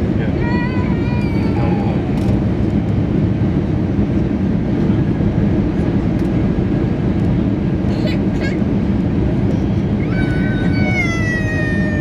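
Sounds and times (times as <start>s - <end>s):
low rumble of moving vehicle: 0.0s - 12.0s.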